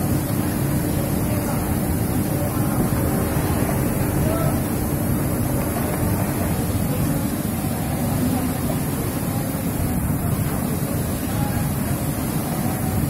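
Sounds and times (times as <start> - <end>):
steam pressing machinery drone: 0.0 - 13.0.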